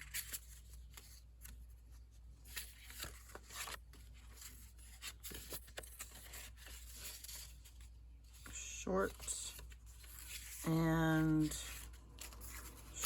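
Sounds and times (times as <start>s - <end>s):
paper sheets rustling: 0.0s - 13.0s.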